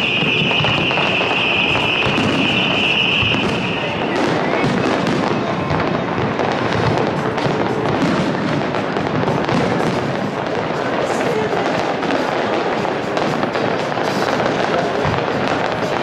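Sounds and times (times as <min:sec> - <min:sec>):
fireworks crackling: 0:00.0 - 0:16.0
music playing: 0:00.0 - 0:16.0.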